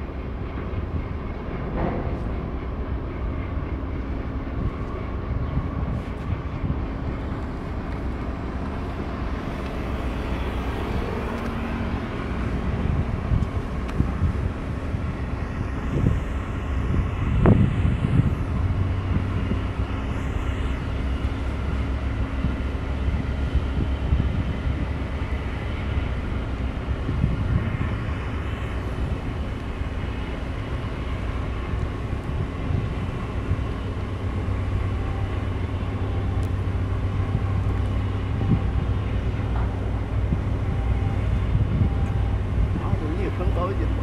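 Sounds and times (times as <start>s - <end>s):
diesel engine rumble: 0.0s - 44.0s
wind buffeting microphone: 0.0s - 44.0s.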